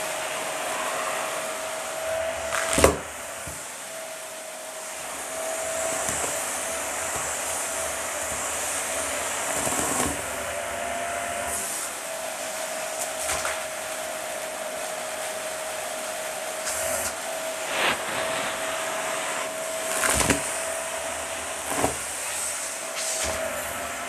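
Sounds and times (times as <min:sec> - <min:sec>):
vacuum cleaner suction whine: 0:00.0 - 0:24.0.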